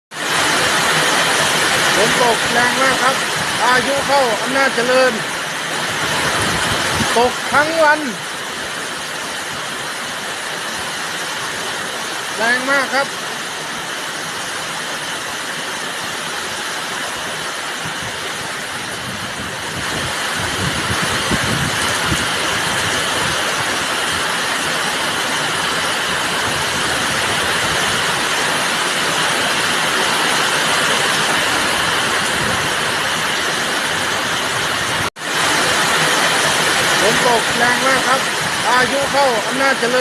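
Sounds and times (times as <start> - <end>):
heavy rain pouring: 0.1 - 40.0.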